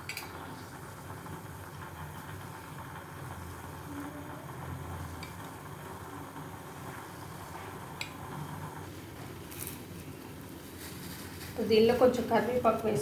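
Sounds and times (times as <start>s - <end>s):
pot boiling on a stove: 0.0s - 13.0s.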